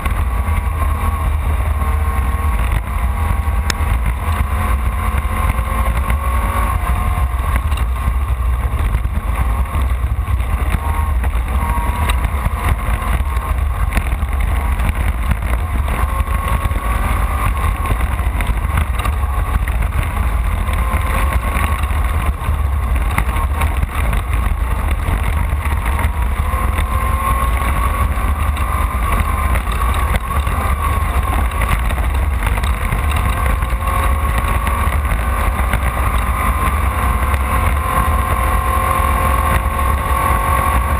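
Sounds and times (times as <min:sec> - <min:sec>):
deep constant rumble: 0:00.0 - 0:40.9
race car engine revving: 0:00.0 - 0:40.9.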